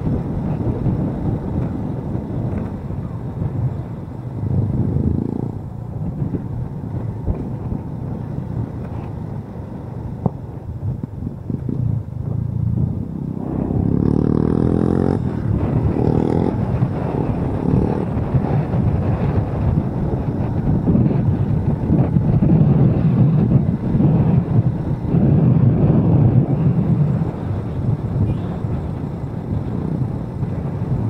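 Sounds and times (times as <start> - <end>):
motorcycle engine accelerating: 0.0 - 31.0
wind rumble on microphone: 0.0 - 31.0.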